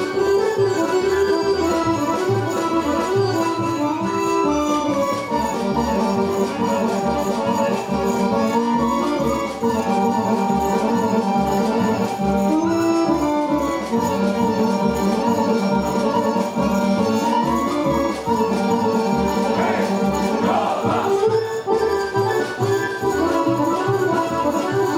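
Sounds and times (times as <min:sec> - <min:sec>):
accordion melody: 0:00.0 - 0:24.9.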